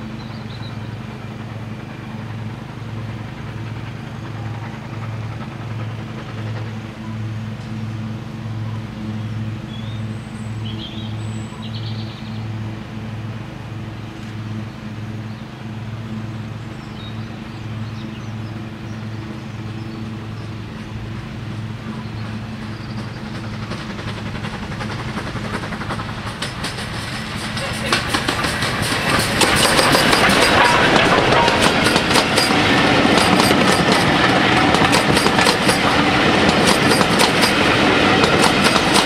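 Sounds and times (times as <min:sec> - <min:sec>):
steam locomotive exhaust beats: 0:00.0 - 0:39.0.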